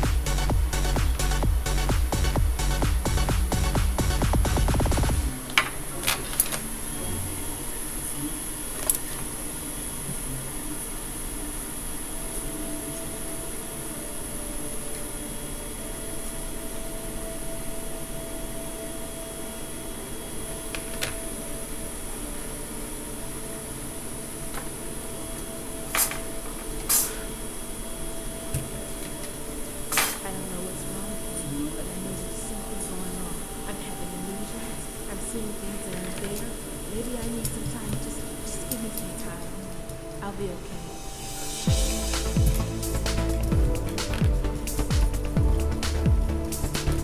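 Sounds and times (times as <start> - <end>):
equipment hum and hiss: 0.0 - 47.0
faint steady tone: 5.2 - 45.6.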